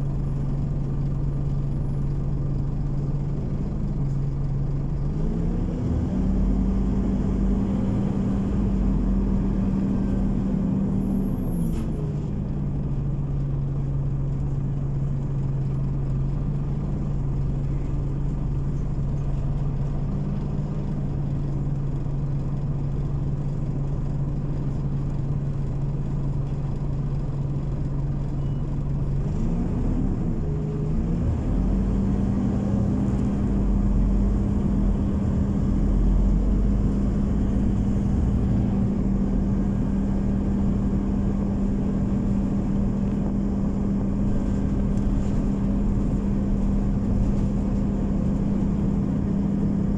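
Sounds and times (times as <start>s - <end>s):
bus engine hum: 0.0s - 49.9s.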